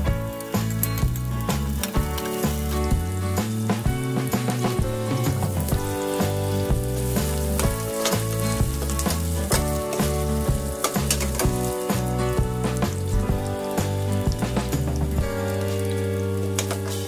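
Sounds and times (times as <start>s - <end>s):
background music: 0.0s - 17.0s
onions sizzling in oil: 0.0s - 17.0s.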